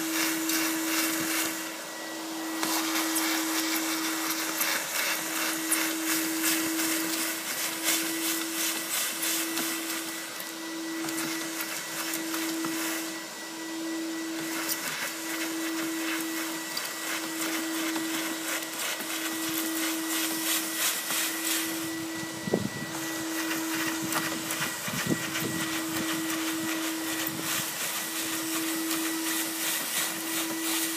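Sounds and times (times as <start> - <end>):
vacuum motor hum: 0.0 - 30.9.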